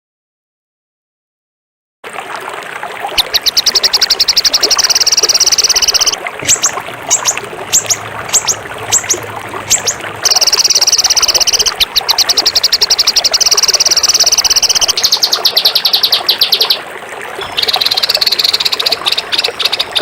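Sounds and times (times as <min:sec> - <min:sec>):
bird whistles sweeping downward: 0:03.2 - 0:16.8, 0:17.4 - 0:20.0
songbird trill: 0:03.2 - 0:16.8, 0:17.4 - 0:20.0.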